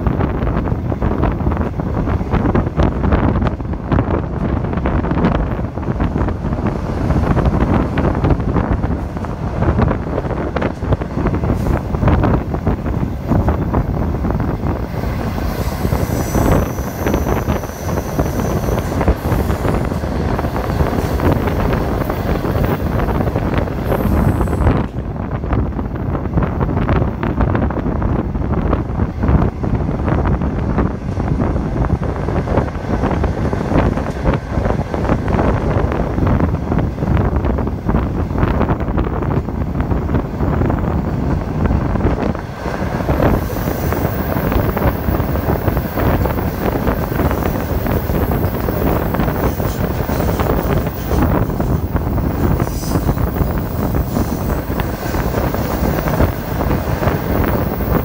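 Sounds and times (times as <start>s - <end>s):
train rumbling on rails: 0.0s - 58.0s
wind buffeting microphone: 0.0s - 58.0s.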